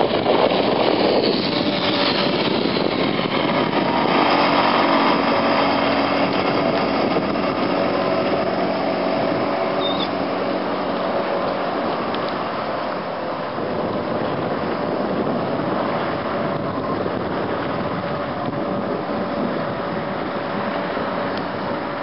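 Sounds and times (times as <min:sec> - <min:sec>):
choppy water: 0:00.0 - 0:22.0
outboard motor running: 0:00.0 - 0:22.0
wind hiss: 0:00.0 - 0:22.0.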